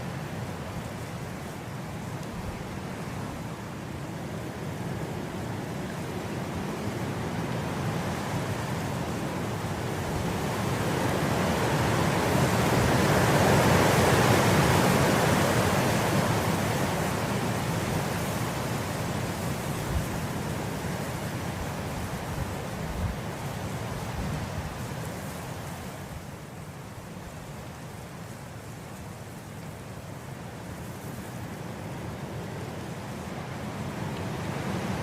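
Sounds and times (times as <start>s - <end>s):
wind blowing through grass: 0.0s - 35.0s.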